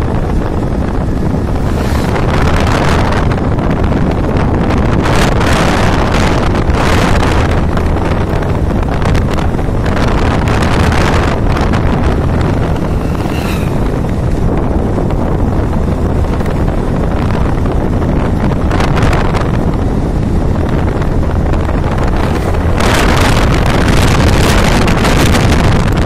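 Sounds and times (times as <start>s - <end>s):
low engine hum: 0.0s - 26.0s
wind buffeting microphone: 0.0s - 26.0s.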